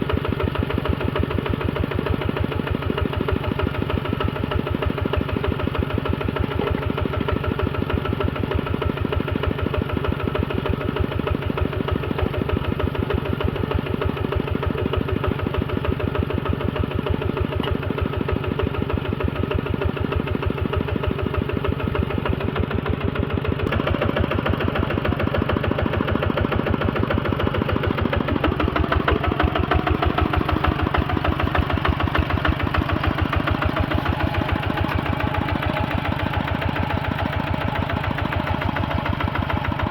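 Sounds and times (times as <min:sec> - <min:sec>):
engine running with fast beat: 0:00.0 - 0:39.9.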